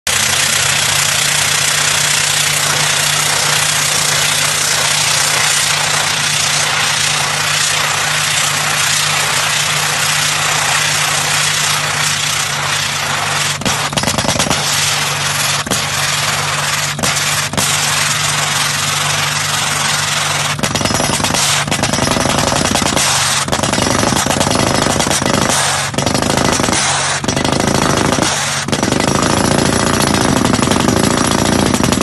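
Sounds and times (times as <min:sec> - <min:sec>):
drill rig engine hum: 0:00.1 - 0:32.0.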